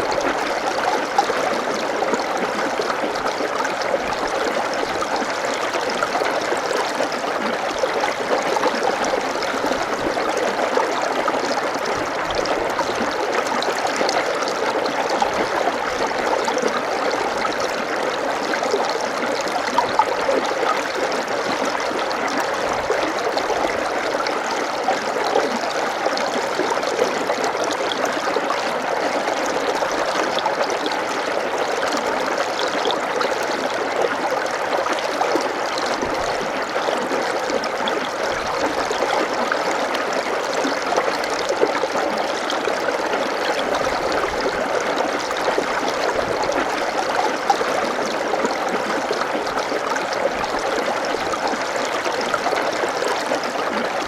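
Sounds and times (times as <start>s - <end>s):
water running in a stream: 0.0s - 54.0s.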